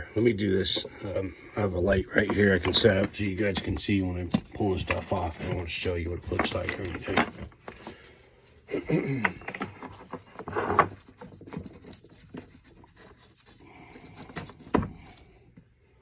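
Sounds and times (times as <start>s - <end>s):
work light rubbing and scraping: 0.2s - 8.2s, 9.5s - 15.6s.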